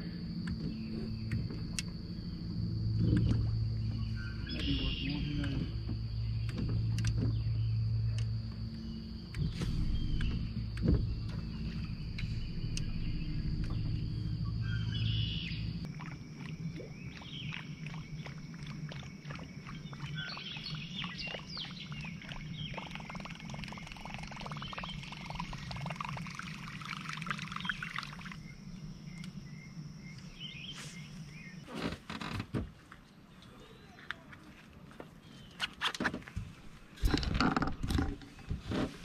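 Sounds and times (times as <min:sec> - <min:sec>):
low hum: 0:00.0 - 0:32.2
birds chirping: 0:00.0 - 0:38.8.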